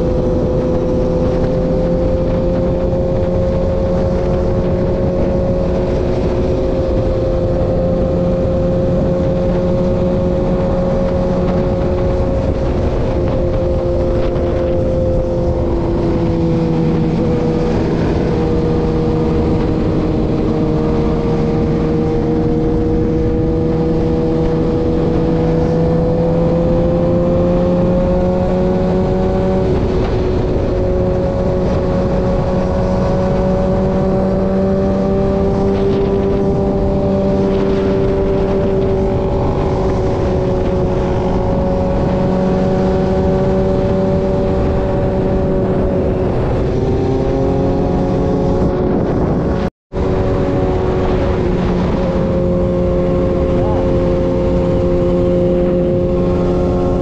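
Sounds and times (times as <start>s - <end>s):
motorcycle engine cruising: 0.0s - 57.0s
wind on microphone: 0.0s - 57.0s.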